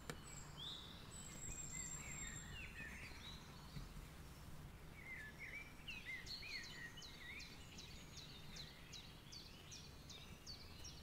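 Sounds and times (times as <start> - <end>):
faint bird song: 0.0 - 11.0.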